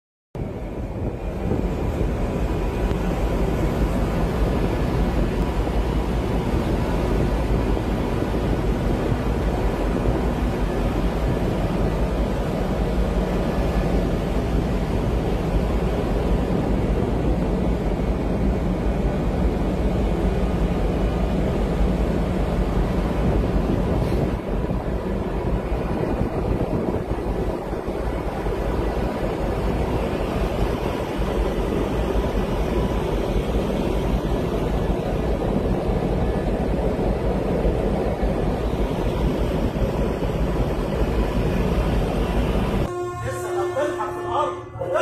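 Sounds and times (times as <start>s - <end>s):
wind buffeting microphone: 0.4s - 42.9s
boat engine low rumble: 0.4s - 45.0s.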